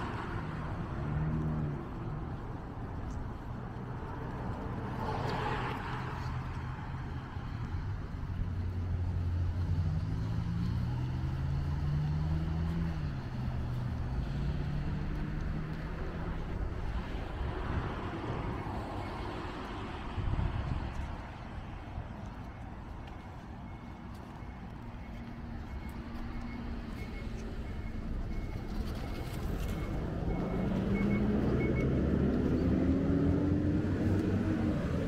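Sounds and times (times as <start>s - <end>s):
vehicle passing on road: 0.0s - 35.0s.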